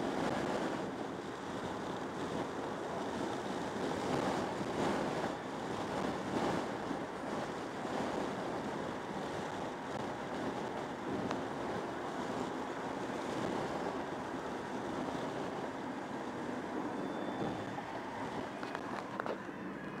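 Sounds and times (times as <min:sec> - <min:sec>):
car road noise: 0:00.0 - 0:20.0
wind through car window: 0:00.0 - 0:20.0.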